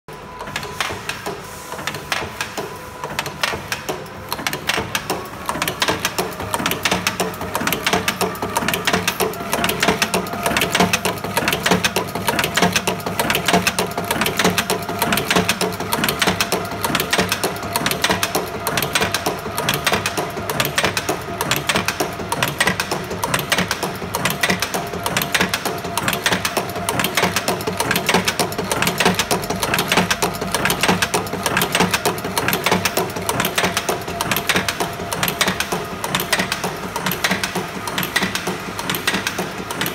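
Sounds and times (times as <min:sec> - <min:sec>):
steady machine hum: 0:00.1 - 0:39.9.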